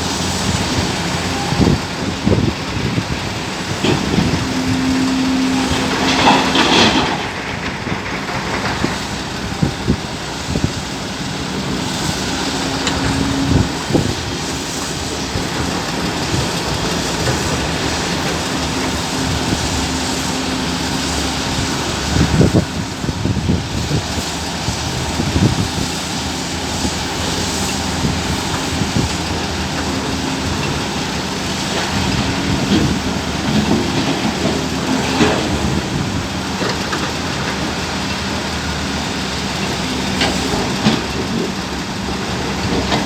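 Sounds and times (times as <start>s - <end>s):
excavator diesel engine and hydraulics: 0.0s - 43.0s.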